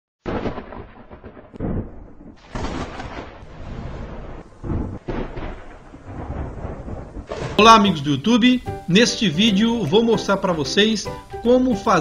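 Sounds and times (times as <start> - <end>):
thunder crashes: 0.3 - 12.0
thunder rumble: 0.3 - 12.0.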